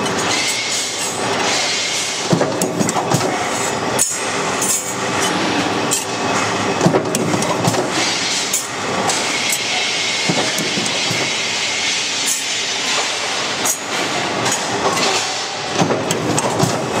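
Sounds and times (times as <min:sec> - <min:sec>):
factory machinery noise: 0:00.0 - 0:17.0
metal clanks and clicks: 0:02.3 - 0:11.4, 0:12.2 - 0:17.0.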